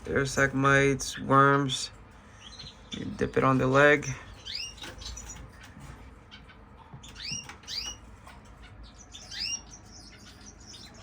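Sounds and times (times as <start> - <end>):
finches chirping: 0.1 - 11.0.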